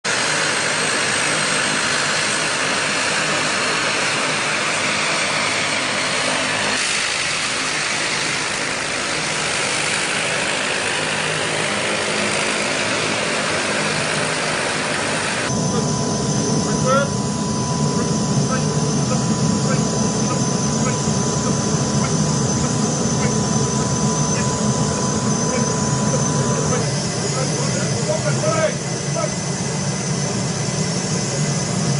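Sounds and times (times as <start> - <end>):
aircraft engine running: 0.0 - 31.9.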